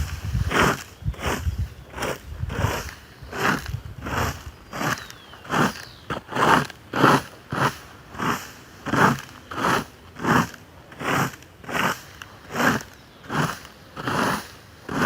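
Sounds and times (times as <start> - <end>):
garden rake scraping: 0.0 - 15.0.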